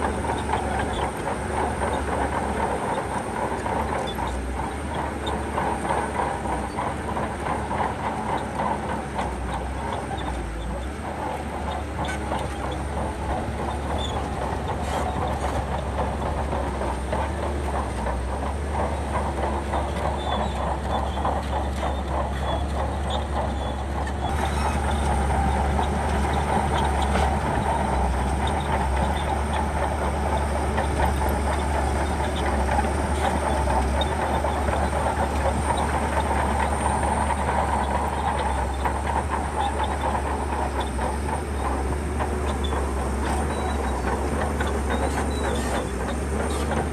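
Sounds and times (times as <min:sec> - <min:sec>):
bulldozer diesel engine: 0:00.0 - 0:46.9
steel tracks clanking: 0:00.0 - 0:46.9.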